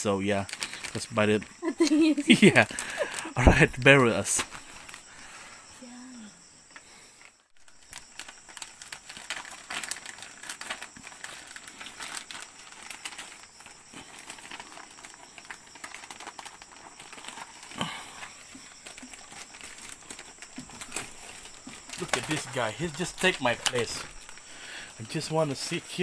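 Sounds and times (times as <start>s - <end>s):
crinkling and crackling clicks: 0.0s - 5.4s, 6.7s - 26.0s.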